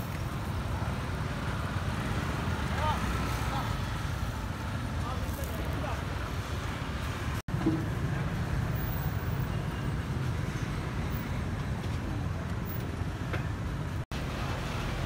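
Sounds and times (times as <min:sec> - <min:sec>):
market background: 0:00.0 - 0:15.0
passing traffic rumble: 0:00.0 - 0:15.0.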